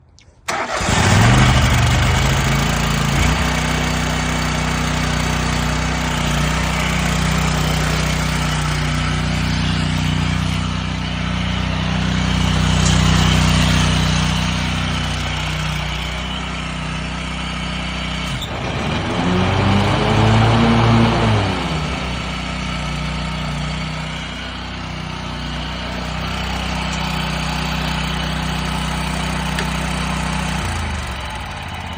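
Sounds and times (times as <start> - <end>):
mower engine running and revving: 0.5 - 31.9.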